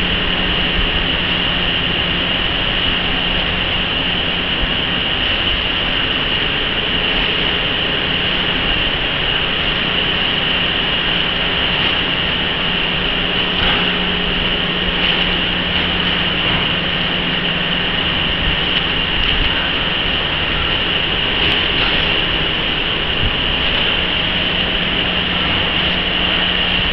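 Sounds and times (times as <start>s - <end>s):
factory machinery running: 0.0s - 26.9s.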